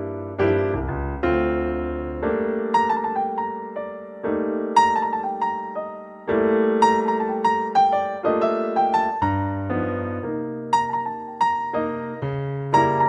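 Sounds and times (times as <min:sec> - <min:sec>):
calm electric piano music: 0:00.0 - 0:13.0.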